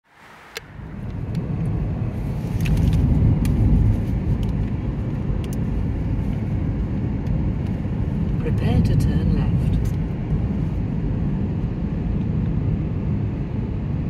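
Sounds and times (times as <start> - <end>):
car tyre and engine rumble: 0.0 - 14.0.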